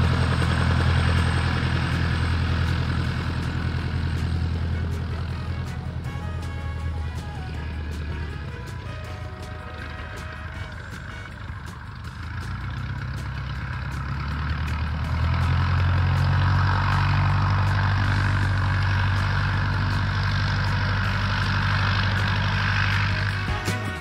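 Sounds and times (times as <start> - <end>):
propeller plane engine running: 0.0 - 24.0.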